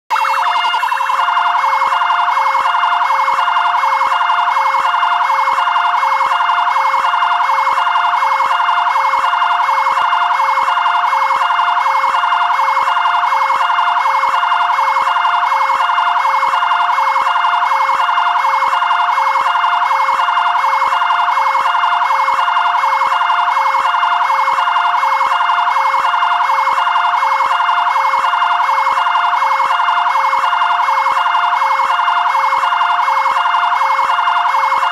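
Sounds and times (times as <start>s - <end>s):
two-tone siren: 0.1s - 34.9s.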